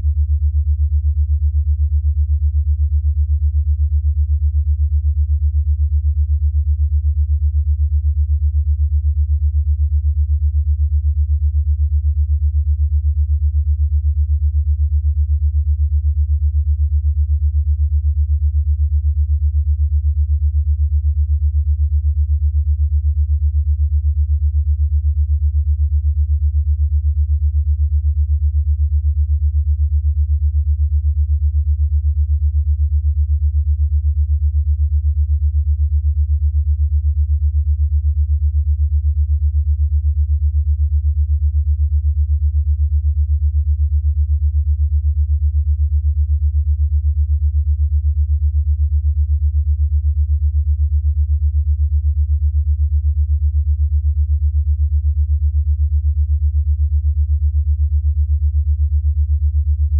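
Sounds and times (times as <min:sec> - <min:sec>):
pulsing low sine tone: 0:00.0 - 0:59.9.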